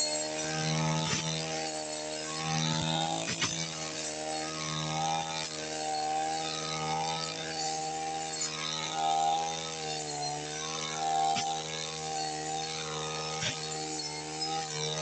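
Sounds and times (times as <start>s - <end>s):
brush cutter engine cutting grass: 0.0s - 15.0s.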